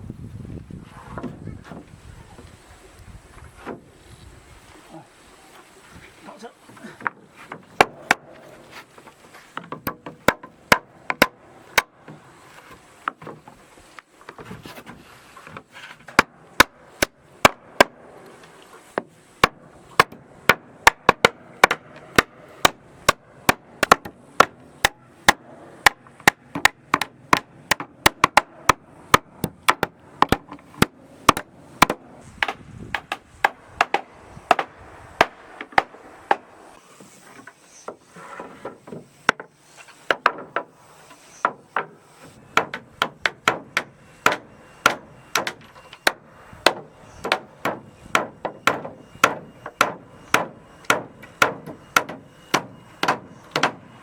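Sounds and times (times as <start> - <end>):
hammer striking wood: 7.0 - 13.6, 15.4 - 36.7, 37.9 - 54.0.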